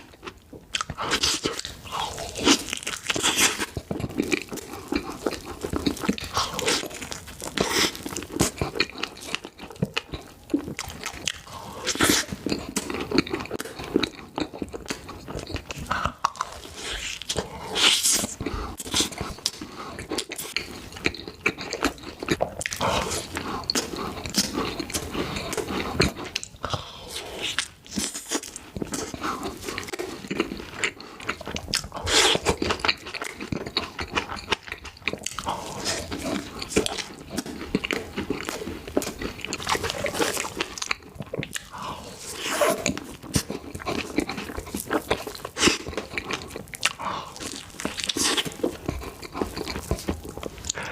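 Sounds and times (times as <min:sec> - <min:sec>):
person crunching and chewing: 0:00.0 - 0:50.9.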